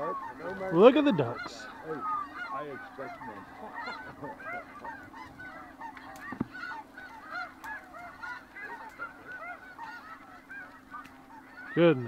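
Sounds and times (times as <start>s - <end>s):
geese honking: 0.0s - 12.0s
low steady hum: 0.0s - 12.0s.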